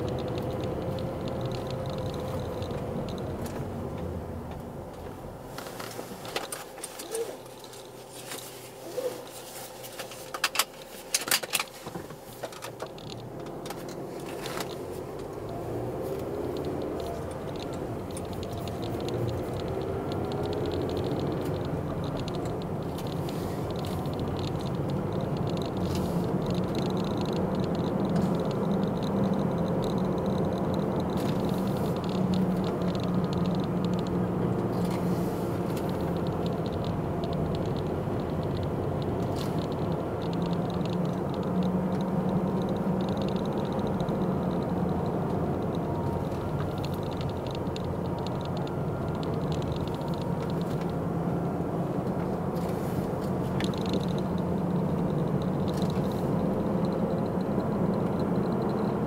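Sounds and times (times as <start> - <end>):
car engine accelerating: 0.0 - 5.4, 12.9 - 59.0.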